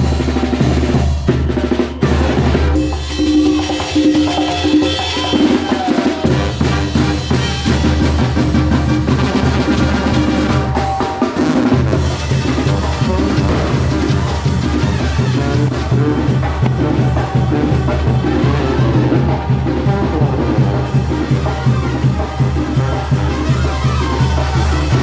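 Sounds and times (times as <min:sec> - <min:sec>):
bass drum and snare beat: 0:00.0 - 0:25.0
brass band playing: 0:00.0 - 0:25.0.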